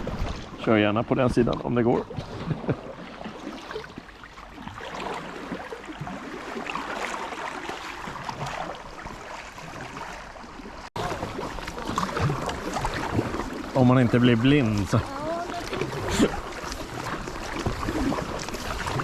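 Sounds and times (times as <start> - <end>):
paddle splashing water: 0.0 - 19.0.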